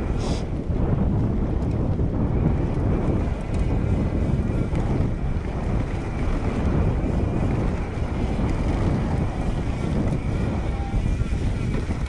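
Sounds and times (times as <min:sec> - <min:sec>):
bike tyres rolling on mud: 0:00.0 - 0:12.0
wind buffeting microphone: 0:00.0 - 0:12.0.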